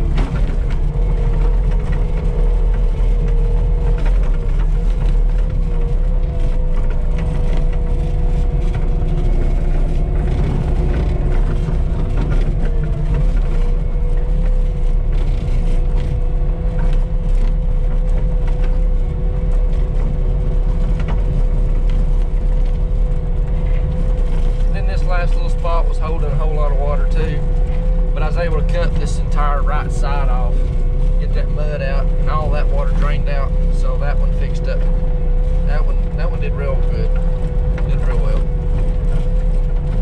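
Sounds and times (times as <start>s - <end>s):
diesel engine with whine: 0.0s - 40.0s
tracks rattling over gravel: 0.0s - 40.0s.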